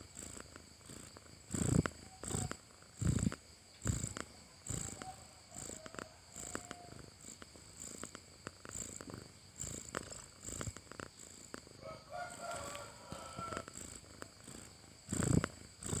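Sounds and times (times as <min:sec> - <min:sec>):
cat snoring: 0:00.0 - 0:16.0.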